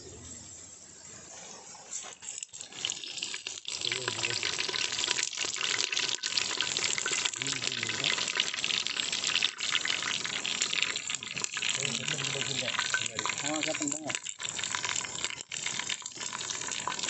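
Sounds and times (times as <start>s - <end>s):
leaves sizzling in hot oil: 2.0s - 17.0s.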